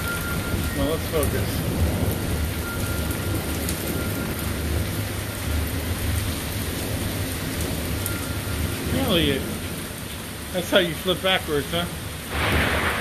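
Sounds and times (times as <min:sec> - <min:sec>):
low rolling thunder: 0:00.0 - 0:10.0, 0:12.0 - 0:13.0
steady rain falling: 0:00.0 - 0:13.0.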